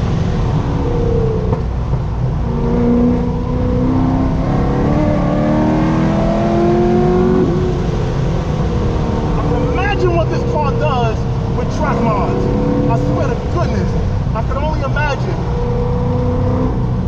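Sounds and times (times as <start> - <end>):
car engine revving hard: 0.0 - 14.4, 15.4 - 17.0.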